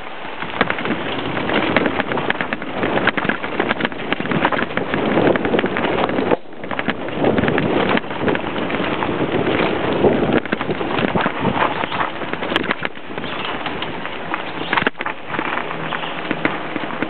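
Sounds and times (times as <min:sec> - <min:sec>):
bike clattering over bumps: 0:00.0 - 0:17.0
bike tyres on dirt: 0:00.0 - 0:17.0
wind on microphone: 0:00.0 - 0:17.0.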